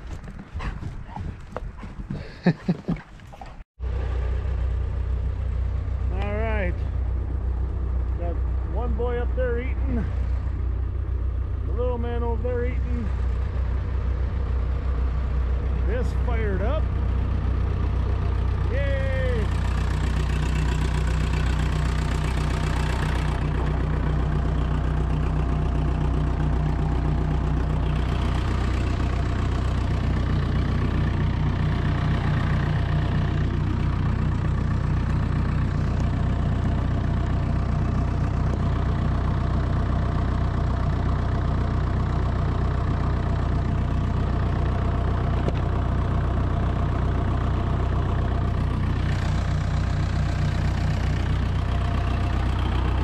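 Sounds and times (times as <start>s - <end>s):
diesel engine idling: 3.8s - 53.0s.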